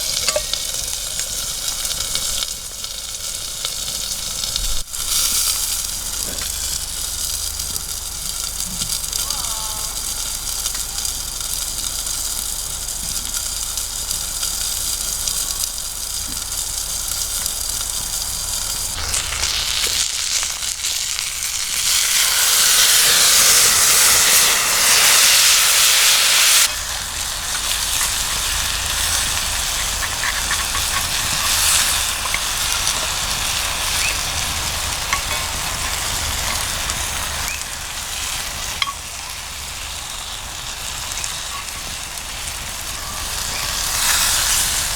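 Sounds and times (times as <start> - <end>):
food sizzling in pan: 0.0 - 44.9.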